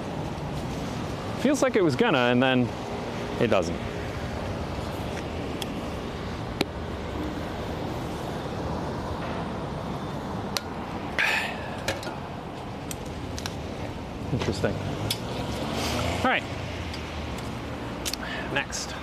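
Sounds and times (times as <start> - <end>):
street background noise: 0.0 - 19.0.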